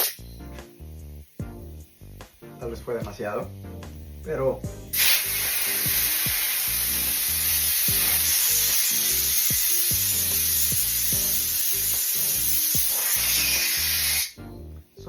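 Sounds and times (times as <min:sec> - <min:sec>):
gas hissing from hose: 0:00.0 - 0:02.4, 0:03.2 - 0:14.4
background music with bass beat: 0:00.0 - 0:15.0.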